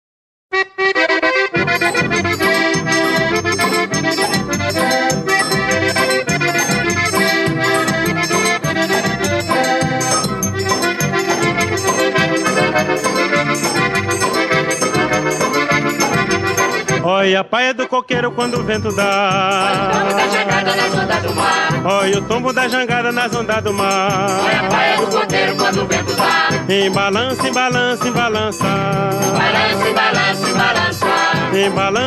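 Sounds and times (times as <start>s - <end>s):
accordion melody: 0.5s - 32.0s
bass and percussion beat: 1.6s - 17.1s, 18.1s - 32.0s.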